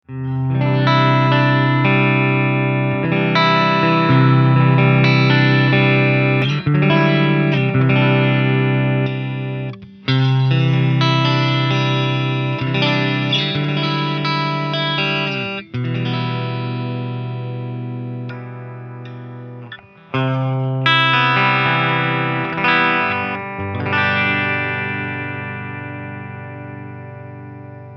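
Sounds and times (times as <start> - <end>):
distorted electric guitar chords: 0.0 - 27.9.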